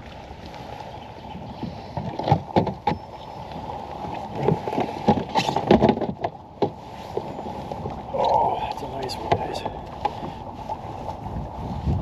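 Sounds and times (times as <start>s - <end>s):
knocks and thumps on a kayak: 1.3s - 8.0s, 9.0s - 12.0s.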